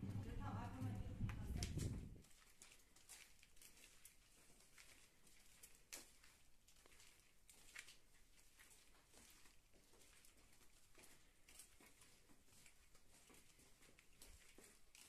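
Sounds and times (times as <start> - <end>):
footsteps scuffing on walkway: 0.1 - 15.0.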